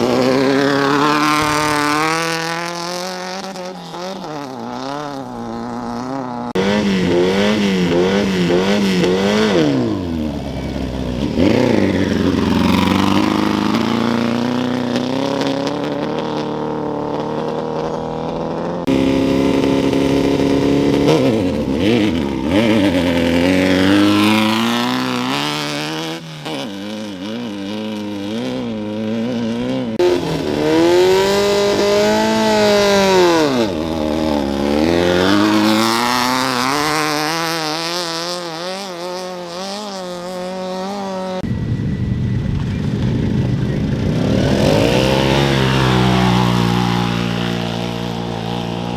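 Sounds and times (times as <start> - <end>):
race vehicle engines revving: 0.0 - 48.9.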